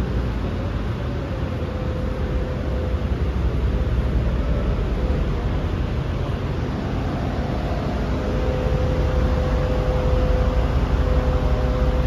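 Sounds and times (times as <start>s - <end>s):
rushing noise with low rumble: 0.0s - 12.0s
thin steady hum: 0.0s - 12.0s.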